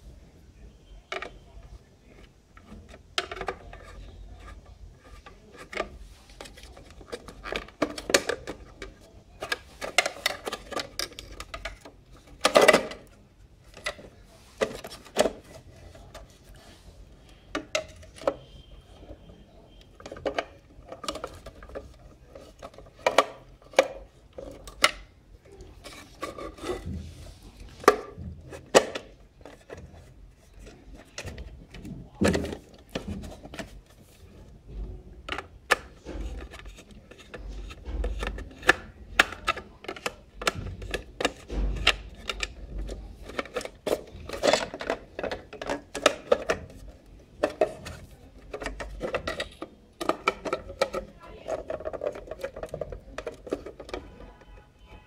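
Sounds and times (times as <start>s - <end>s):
metal scraping on plastic: 1.1s - 55.0s
plastic housing handled: 2.1s - 16.7s, 17.5s - 18.5s, 19.9s - 25.1s, 25.7s - 54.6s.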